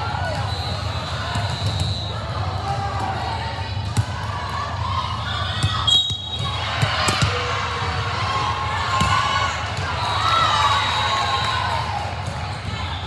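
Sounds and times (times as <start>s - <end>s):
crowd chatter in a hall: 0.0s - 13.0s.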